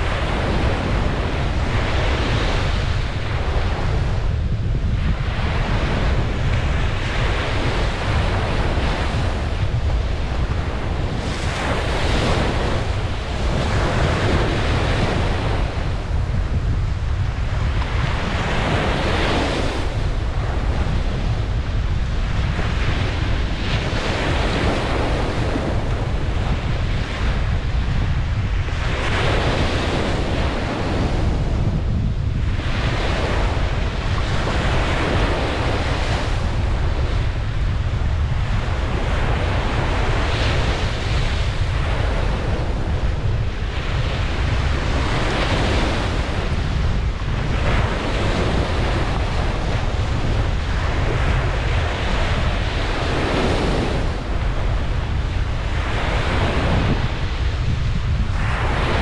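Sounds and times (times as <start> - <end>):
ocean waves breaking on beach: 0.0 - 59.0
wind rumble on microphone: 0.0 - 59.0.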